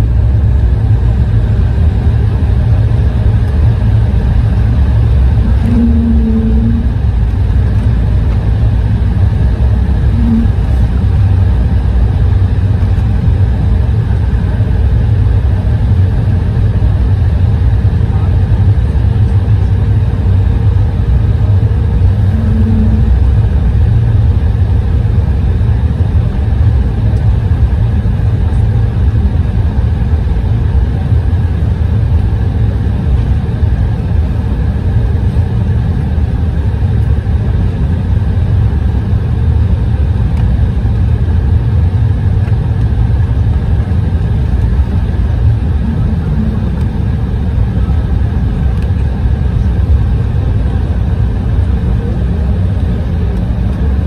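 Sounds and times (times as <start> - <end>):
faint steady hum: 0.0 - 54.0
jet engines rumbling: 0.0 - 54.0.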